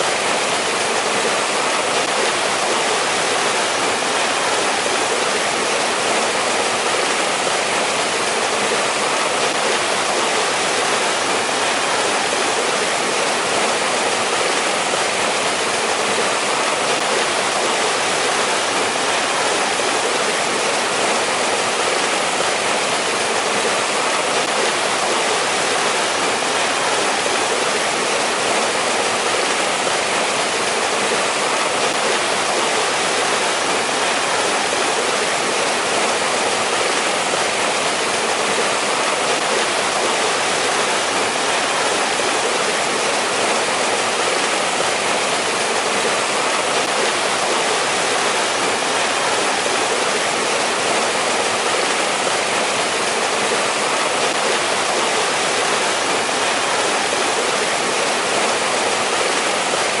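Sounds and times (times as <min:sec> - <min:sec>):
stream rushing over rocks: 0:00.0 - 1:00.0.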